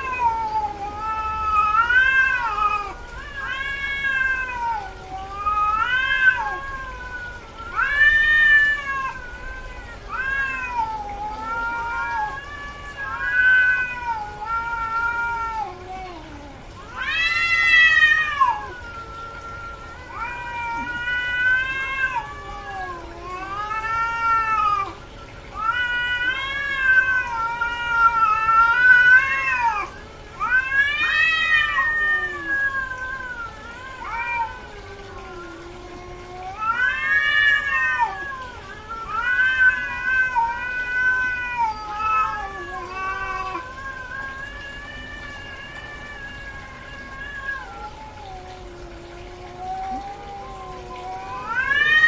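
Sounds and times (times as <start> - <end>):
cat yowling: 0.0 - 52.0.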